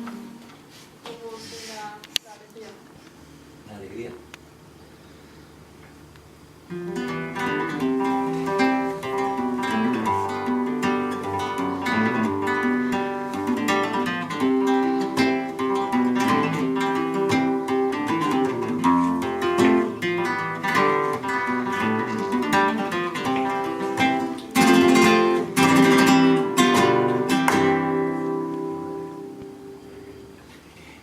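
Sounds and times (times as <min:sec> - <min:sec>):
flamenco acoustic guitar: 0:00.0 - 0:01.6, 0:06.6 - 0:31.0.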